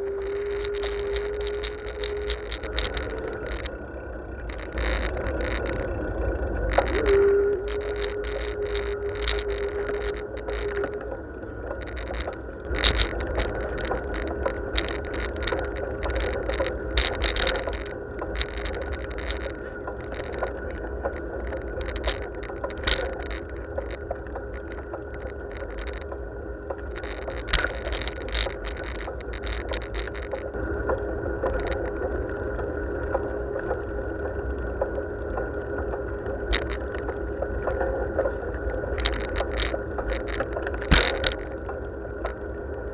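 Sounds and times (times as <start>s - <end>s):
rattling clicks: 0.0s - 3.8s, 4.4s - 32.2s, 36.4s - 42.4s
bicycle tyres rumbling on road: 0.0s - 42.9s
wind: 0.0s - 42.9s.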